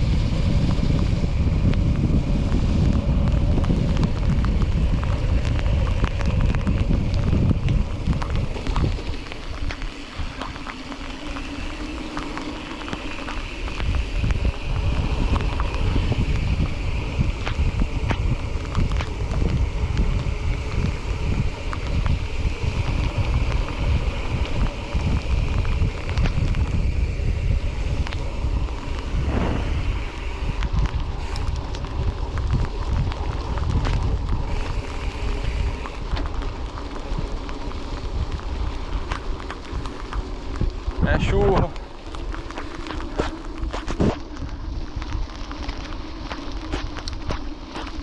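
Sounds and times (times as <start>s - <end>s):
bike rattling and knocking: 0.0s - 48.0s
wind buffeting microphone: 0.0s - 48.0s.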